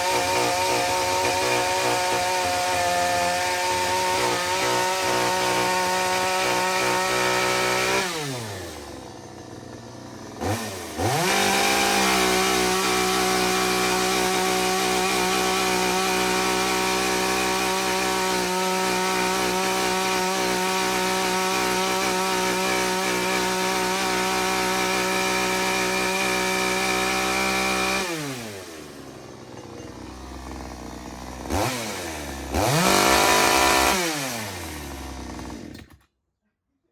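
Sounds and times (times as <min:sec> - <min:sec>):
chainsaw cutting wood: 0:00.0 - 0:36.2.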